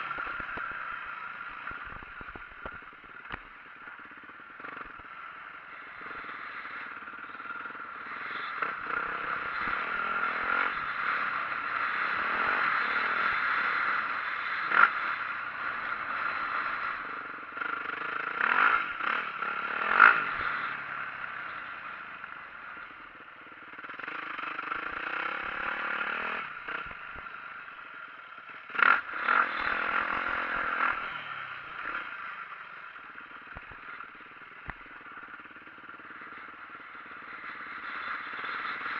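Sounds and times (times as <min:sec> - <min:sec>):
dirt bike engine revving: 0:04.6 - 0:27.5, 0:28.5 - 0:38.9.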